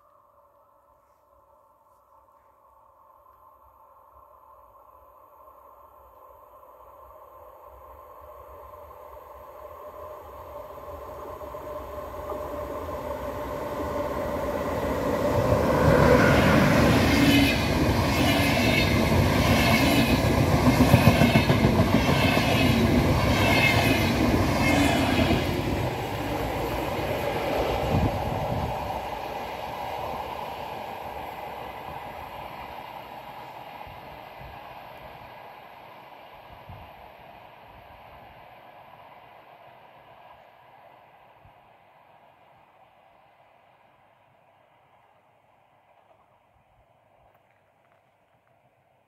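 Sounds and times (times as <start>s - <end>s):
passenger train passing at speed: 0.0s - 47.4s.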